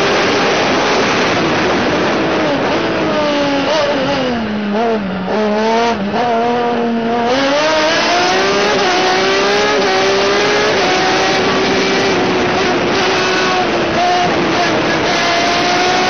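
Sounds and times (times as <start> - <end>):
motorcycle engine climbing hill: 0.0 - 16.0.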